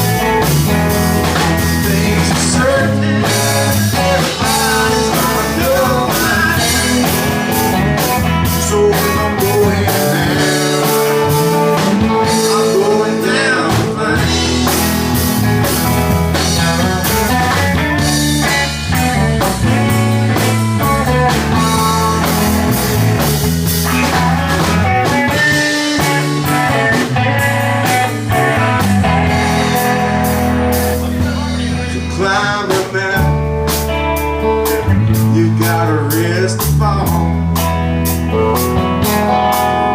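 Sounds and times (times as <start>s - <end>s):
bass guitar: 0.0s - 39.9s
lead electric guitar: 0.0s - 39.9s
steady drum beat: 0.0s - 39.9s.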